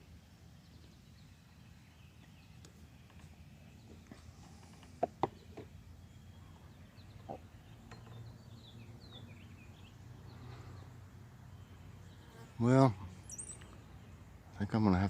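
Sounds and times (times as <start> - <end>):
faint low hum: 0.0 - 15.0
wild birds chirping: 0.0 - 15.0.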